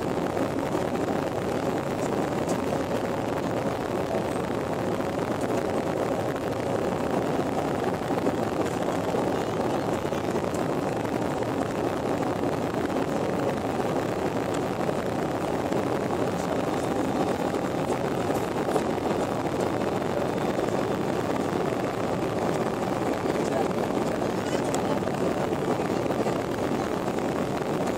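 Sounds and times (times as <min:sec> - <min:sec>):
jet cabin engine and airflow noise: 0:00.0 - 0:27.9.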